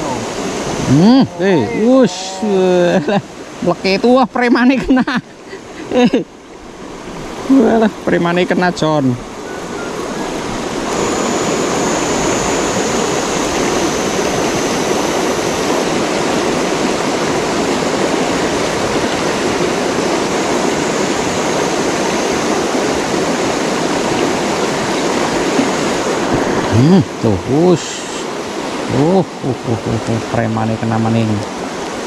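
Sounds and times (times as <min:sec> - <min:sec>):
river flowing over stones: 0:00.0 - 0:32.0.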